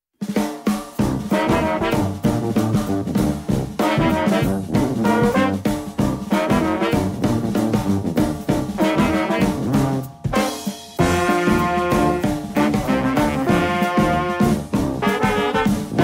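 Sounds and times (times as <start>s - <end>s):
drums: 0.1s - 16.0s
jazzy brass horns: 1.0s - 16.0s.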